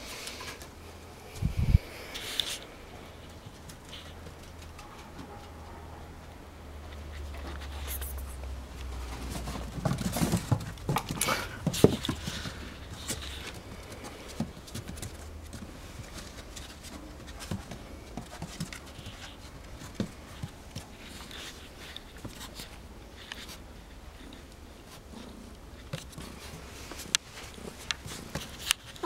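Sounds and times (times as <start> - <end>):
animals scuffling on wooden deck: 2.2 - 29.0.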